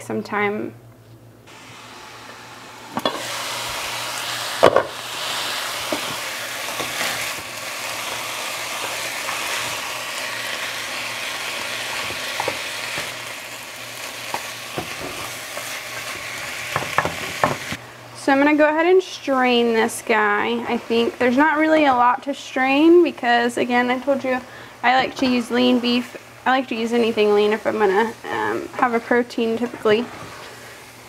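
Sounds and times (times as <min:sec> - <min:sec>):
meat sizzling in a skillet: 0:01.5 - 0:17.8, 0:18.6 - 0:31.0.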